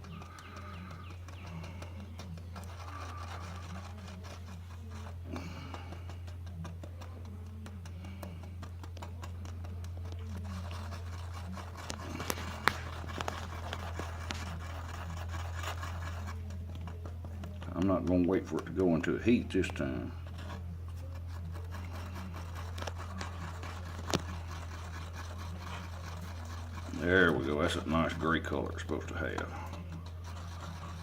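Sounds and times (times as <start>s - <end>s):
epoxy stirring and scraping: 0.0s - 31.0s.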